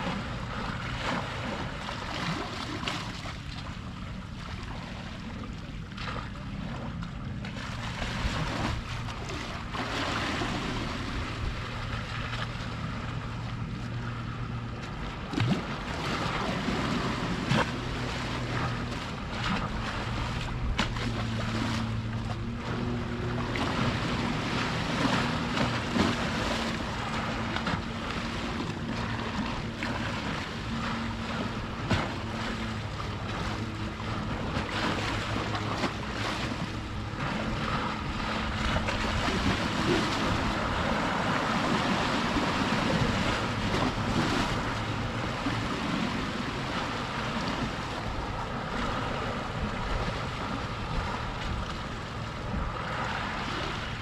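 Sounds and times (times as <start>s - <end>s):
boat motor humming: 0.0s - 54.0s
waves washing at shore: 0.0s - 54.0s
wind: 0.0s - 54.0s.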